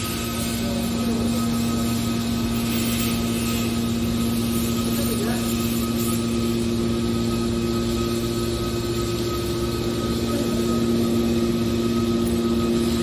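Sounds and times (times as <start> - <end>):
baler machine hum: 0.0 - 13.0.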